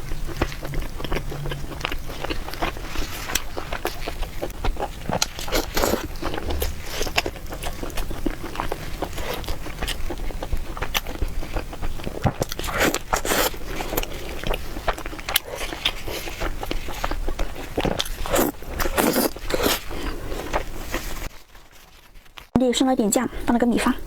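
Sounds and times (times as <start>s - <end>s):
person biting and chewing: 0.0s - 21.3s.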